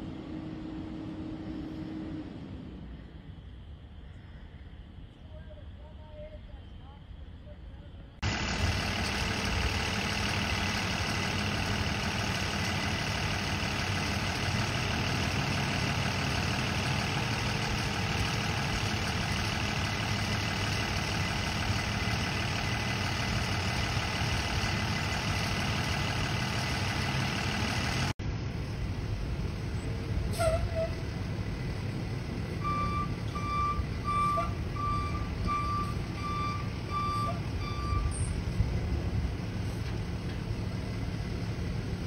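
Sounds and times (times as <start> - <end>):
large vehicle engine idling: 6.8 - 42.0.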